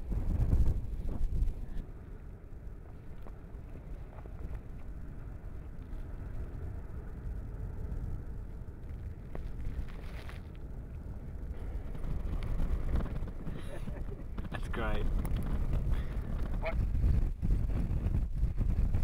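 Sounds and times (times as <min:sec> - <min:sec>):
deep rumble of lava lake: 0:00.0 - 0:19.0.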